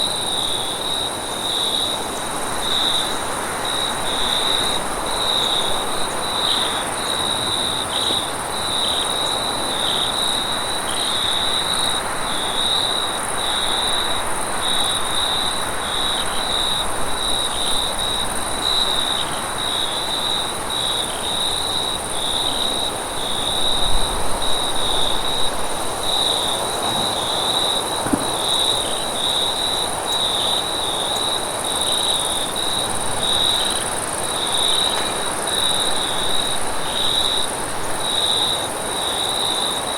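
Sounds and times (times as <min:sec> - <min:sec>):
high insect hiss: 0:00.0 - 0:39.9
insects trilling: 0:00.0 - 0:39.9.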